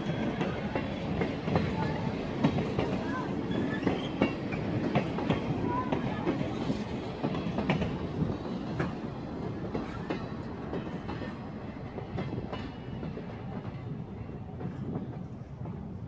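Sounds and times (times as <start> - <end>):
wheels clicking over rail joints: 0.0 - 13.8
train cars rumbling: 0.0 - 16.0.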